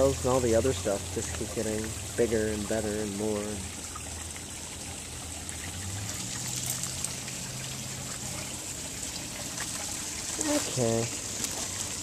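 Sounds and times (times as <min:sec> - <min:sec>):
trickle of running water: 0:00.0 - 0:12.0.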